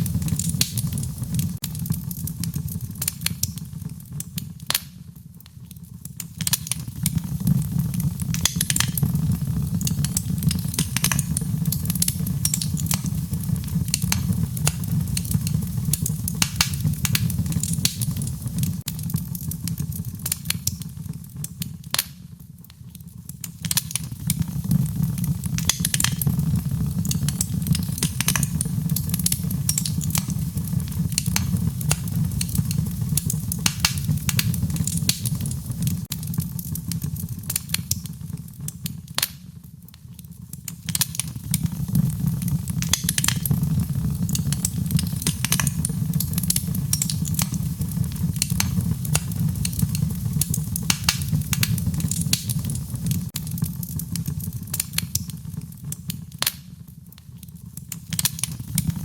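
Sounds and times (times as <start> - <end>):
burning wood crackling and popping: 0.0 - 59.0
low rumble of flames: 0.0 - 59.0.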